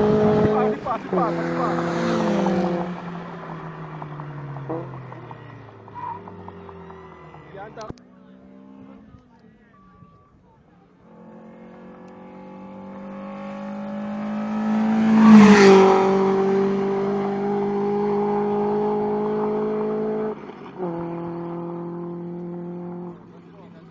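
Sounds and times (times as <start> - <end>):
car engine at high revs: 0.0 - 9.4, 11.0 - 23.9.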